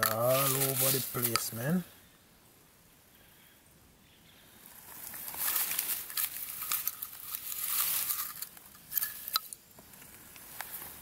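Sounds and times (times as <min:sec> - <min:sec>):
dry grass and leaves rustling: 0:00.0 - 0:02.1, 0:04.0 - 0:11.0.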